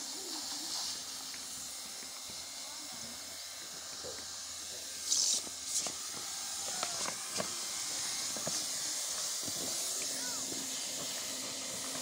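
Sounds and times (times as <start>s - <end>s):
hot-air welding gun hissing: 0.0s - 12.0s.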